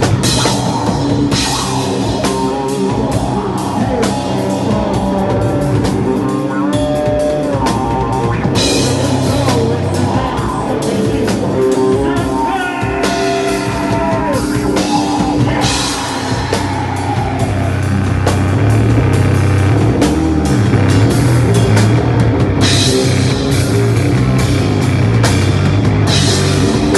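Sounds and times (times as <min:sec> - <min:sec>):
hardcore band playing: 0:00.0 - 0:26.9.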